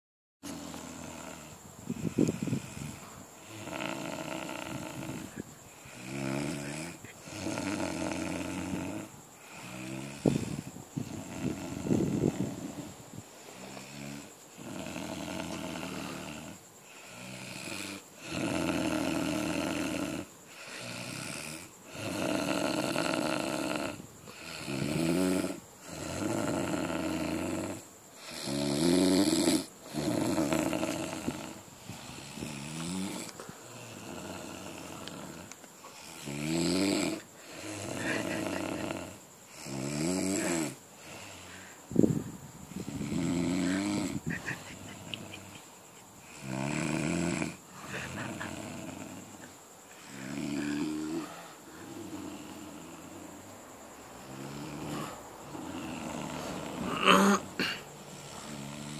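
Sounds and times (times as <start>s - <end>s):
man snoring loudly: 0.4s - 12.9s, 13.5s - 45.5s, 46.2s - 53.6s, 54.2s - 58.9s.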